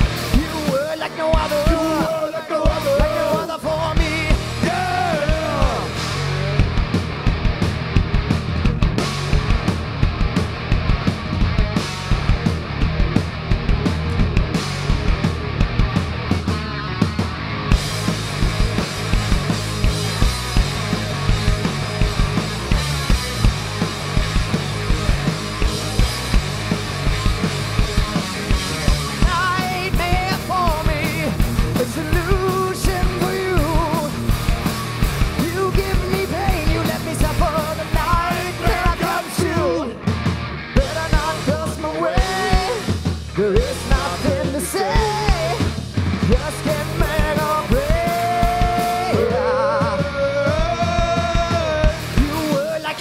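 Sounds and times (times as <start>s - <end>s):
bass guitar: 0.0s - 53.0s
distorted electric guitars: 0.0s - 53.0s
pounding drum kit: 0.0s - 53.0s.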